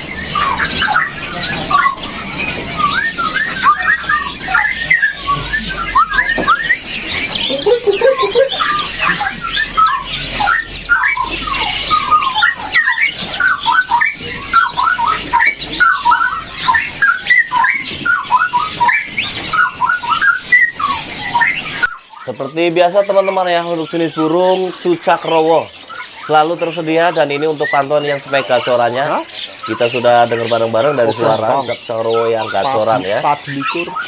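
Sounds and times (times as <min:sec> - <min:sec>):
songbirds chirping and chattering: 0:00.0 - 0:34.0.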